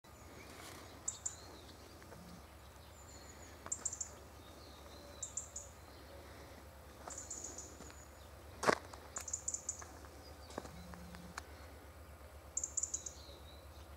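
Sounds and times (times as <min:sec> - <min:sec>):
faint steady low hum: 0:00.1 - 0:13.9
small birds chirping: 0:00.1 - 0:13.9.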